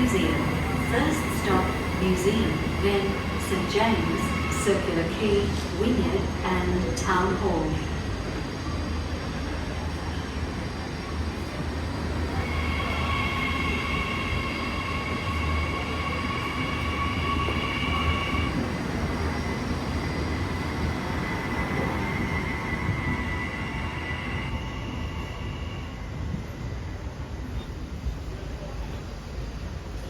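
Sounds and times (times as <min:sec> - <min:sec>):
electric train rumbling: 0:00.0 - 0:30.0
train wheels squealing on rails: 0:00.0 - 0:30.0.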